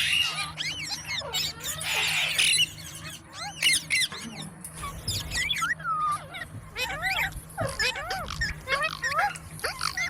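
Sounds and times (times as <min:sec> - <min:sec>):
parrot squawk: 0:00.0 - 0:10.0
parrots chirping: 0:00.0 - 0:10.0.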